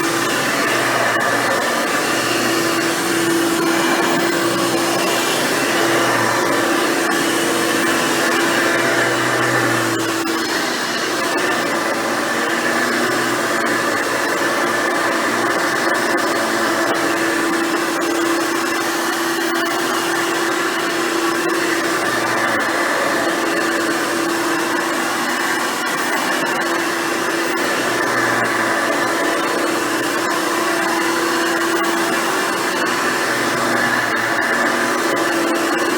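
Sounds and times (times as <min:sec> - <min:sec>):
upright vacuum cleaner running: 0:00.0 - 0:35.9.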